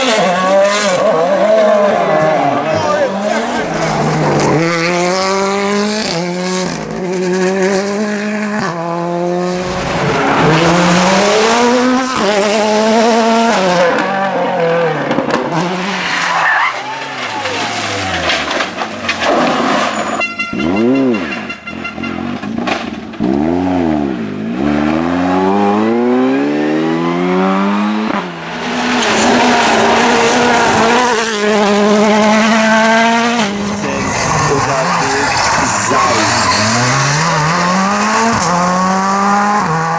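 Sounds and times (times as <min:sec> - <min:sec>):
cars passing by close: 0:00.0 - 0:39.9
rally car engines revving: 0:00.0 - 0:39.9.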